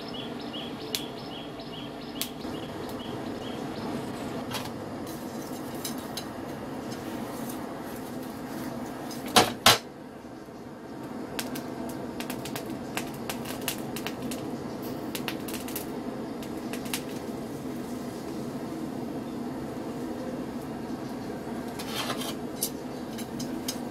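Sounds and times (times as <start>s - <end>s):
coals crackling: 0.0s - 23.9s.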